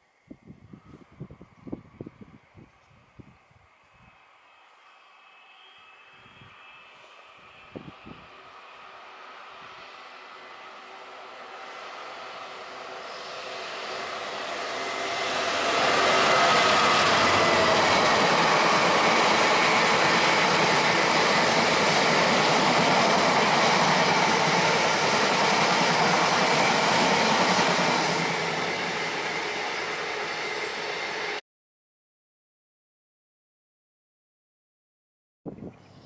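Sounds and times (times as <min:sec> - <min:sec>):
train passing close by: 0:00.0 - 0:31.4.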